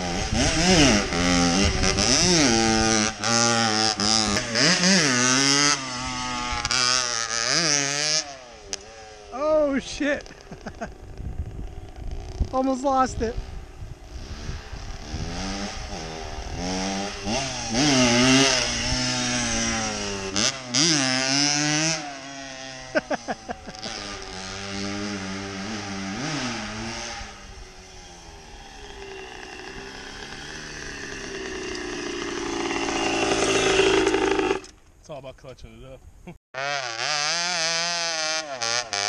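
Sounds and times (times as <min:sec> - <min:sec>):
dirt bike engine revving: 0:00.0 - 0:34.8, 0:36.6 - 0:39.0.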